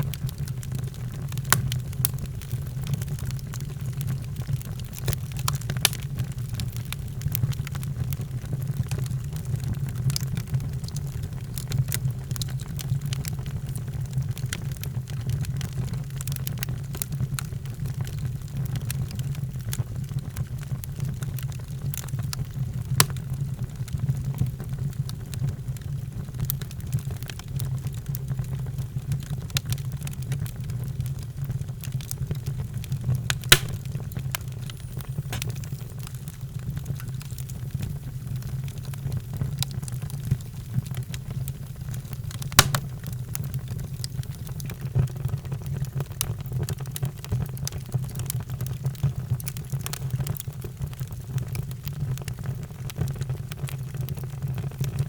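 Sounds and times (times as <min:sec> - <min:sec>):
low rumble of burning: 0:00.0 - 0:55.0
sharp pops and snaps of fire: 0:00.0 - 0:55.0
wood fire crackling: 0:00.0 - 0:55.0.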